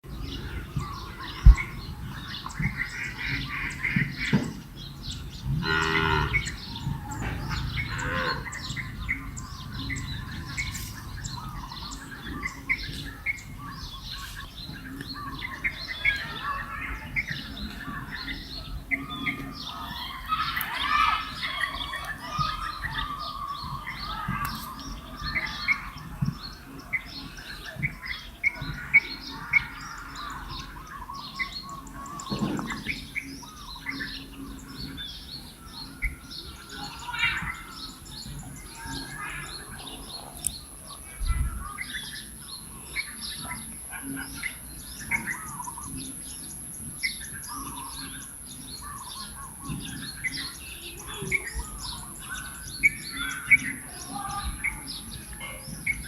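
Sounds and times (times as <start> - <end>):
birds chirping and squawking: 0.0 - 56.0
drawn-out bird call: 0.2 - 26.1, 26.8 - 56.0.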